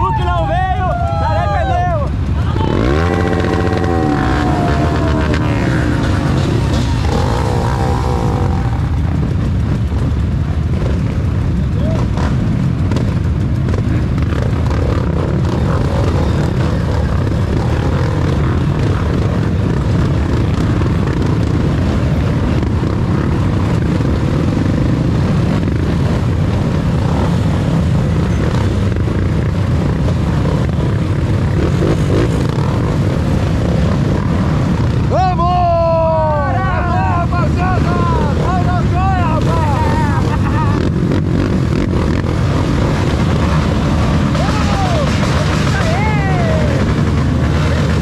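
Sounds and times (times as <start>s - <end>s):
dirt bike engines running: 0.0s - 48.0s.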